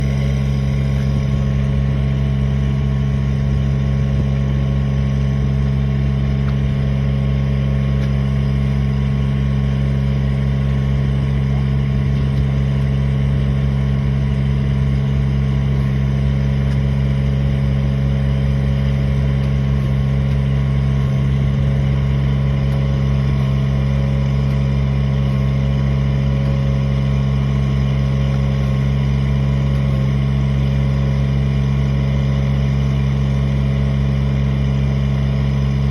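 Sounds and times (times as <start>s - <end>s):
engine running steadily: 0.0s - 35.9s.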